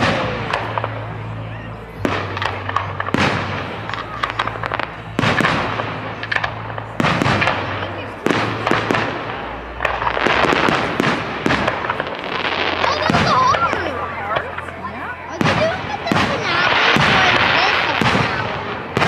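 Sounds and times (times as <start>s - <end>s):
firework crackling: 0.0s - 19.0s
firework booms: 2.0s - 14.7s, 15.3s - 19.0s.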